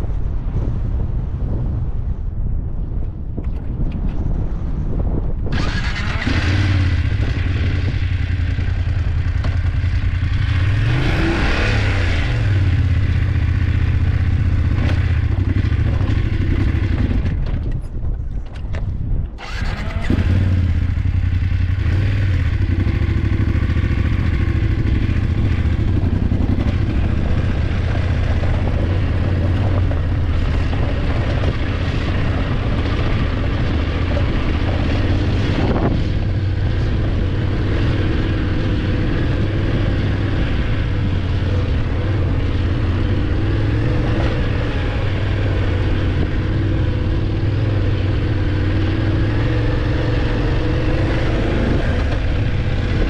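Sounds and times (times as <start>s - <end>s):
motorcycle engine running: 4.4s - 18.0s, 19.4s - 53.0s.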